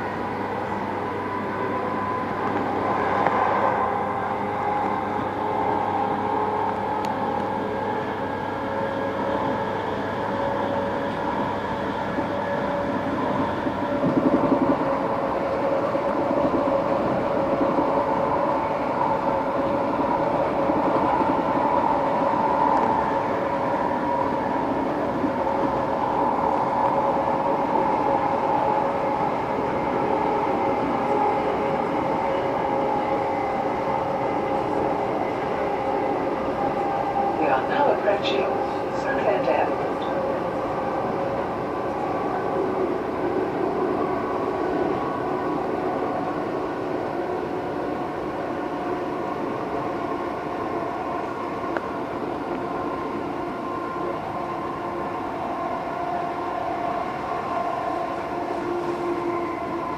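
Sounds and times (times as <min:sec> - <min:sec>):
train rumble inside carriage: 0:00.0 - 0:59.9.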